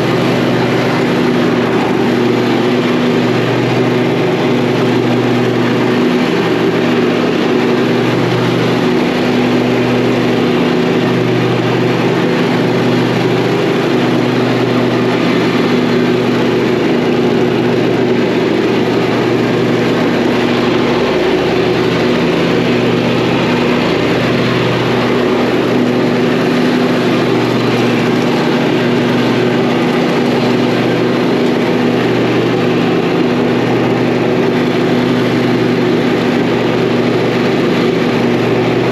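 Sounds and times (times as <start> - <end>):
riding lawn mower engine: 0.0 - 38.9.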